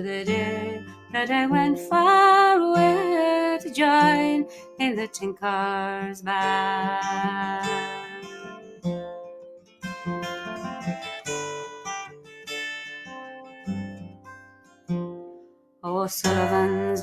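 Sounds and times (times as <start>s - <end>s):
acoustic guitar strumming chords: 0.0s - 15.4s, 16.2s - 17.0s.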